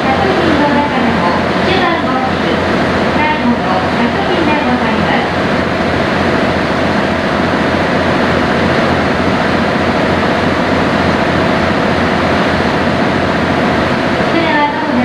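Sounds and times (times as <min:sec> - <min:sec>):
rushing water and air: 0:00.0 - 0:14.8
boat engine drone: 0:00.0 - 0:15.0.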